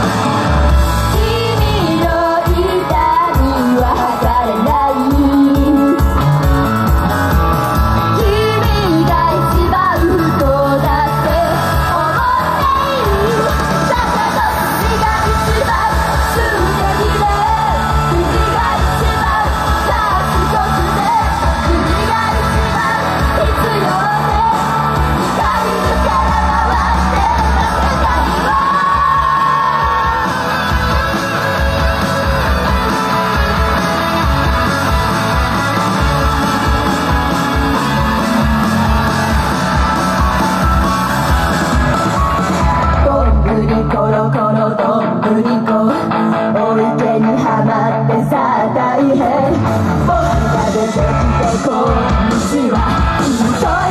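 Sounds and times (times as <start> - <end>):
group singing pop-rock: 0.0 - 53.9
loud band track with beat: 0.0 - 53.9.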